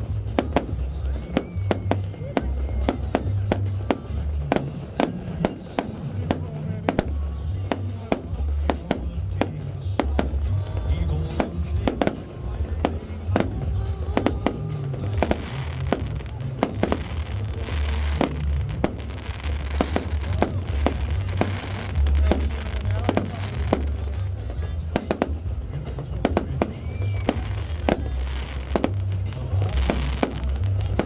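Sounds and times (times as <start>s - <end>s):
firework bangs and crackling: 0.0s - 31.0s
music with heavy bass: 0.0s - 31.0s.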